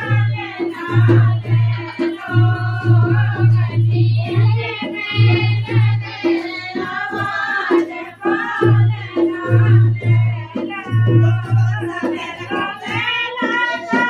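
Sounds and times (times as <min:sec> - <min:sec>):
hand drum beat: 0:00.0 - 0:14.0
women singing folk song: 0:00.0 - 0:14.0.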